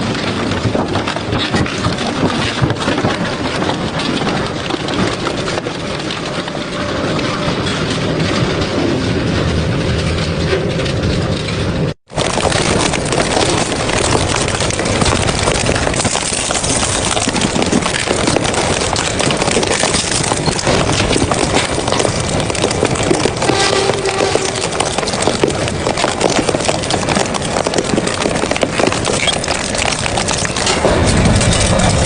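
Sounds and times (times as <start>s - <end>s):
industrial shredder crunching scrap: 0.0s - 32.0s.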